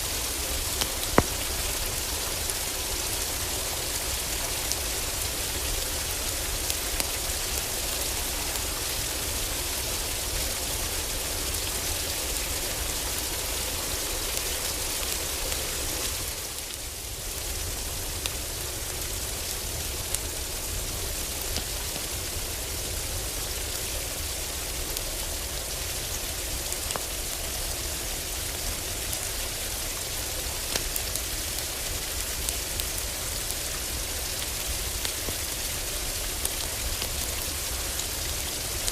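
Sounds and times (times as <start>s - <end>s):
heavy rain on a roof: 0.0s - 38.9s.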